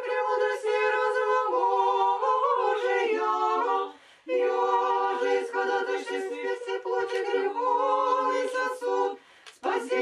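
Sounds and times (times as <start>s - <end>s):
choir singing a cappella: 0.0s - 10.0s.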